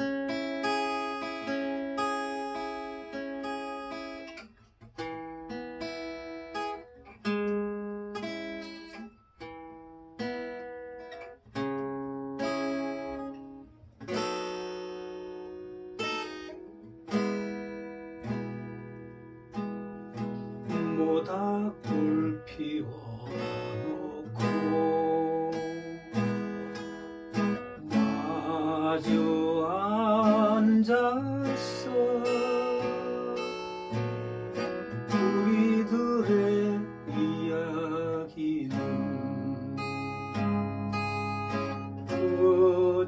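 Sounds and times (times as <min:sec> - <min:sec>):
acoustic guitar chords strummed: 0:00.0 - 0:43.0.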